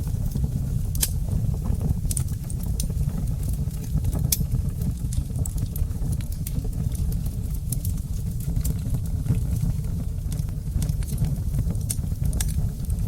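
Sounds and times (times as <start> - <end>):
fire popping and snapping: 0.0 - 13.0
low rumble of burning: 0.0 - 13.0.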